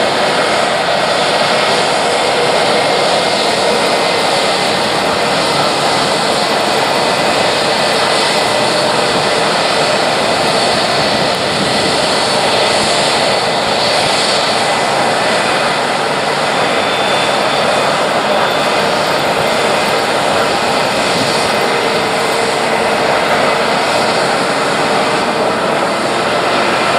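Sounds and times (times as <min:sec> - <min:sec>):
jet engines roaring: 0:00.0 - 0:26.9.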